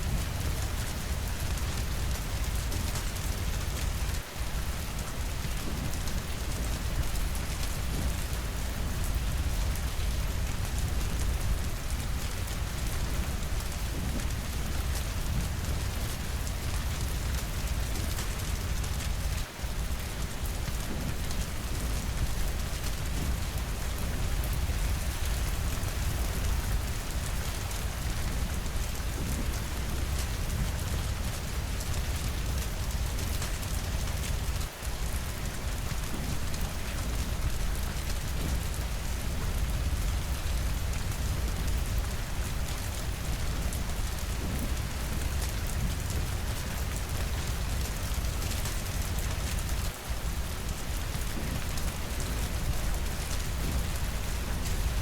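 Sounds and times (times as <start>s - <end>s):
rain against windows: 0.0s - 55.0s.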